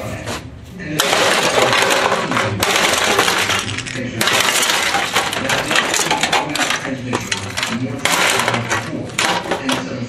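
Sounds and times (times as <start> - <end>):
debris clattering and rattling: 1.0 - 10.0
golf club smashing plastic: 1.0 - 10.0.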